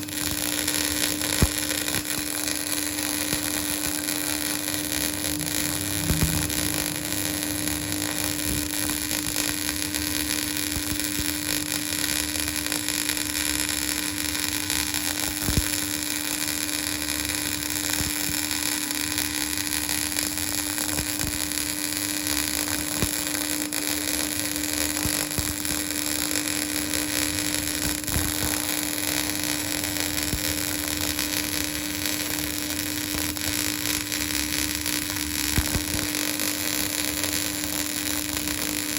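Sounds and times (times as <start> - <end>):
arc welding hiss: 0.0 - 38.9.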